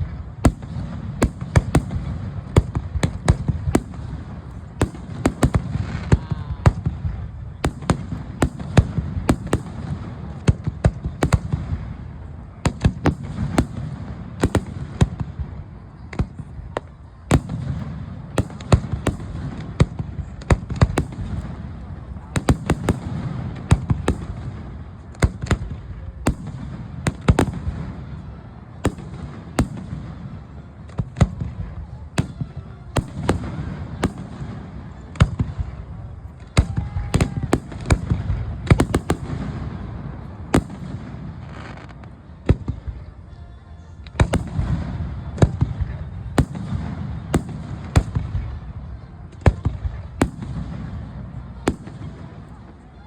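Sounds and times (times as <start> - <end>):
fireworks cracking and booming: 0.0 - 43.3, 44.0 - 53.0.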